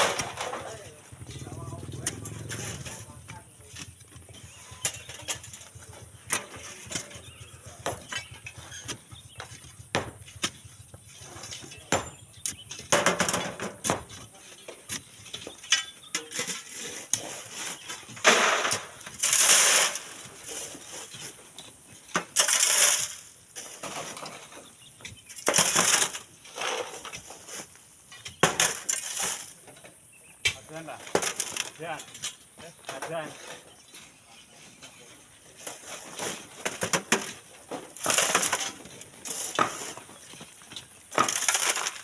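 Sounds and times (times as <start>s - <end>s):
shovels scraping sand and gravel: 0.0s - 9.1s, 14.2s - 29.8s, 30.5s - 42.0s.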